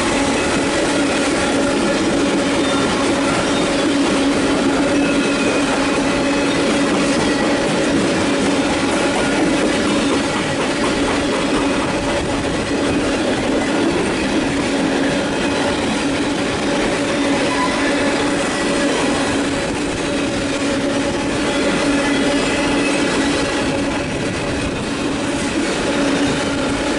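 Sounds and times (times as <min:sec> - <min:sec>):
train wheels rolling on track: 0:00.0 - 0:26.9.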